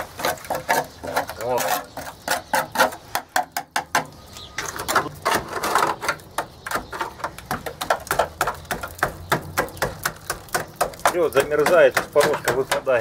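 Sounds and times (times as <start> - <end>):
hand tool picking at rusted metal: 0.0 - 13.0.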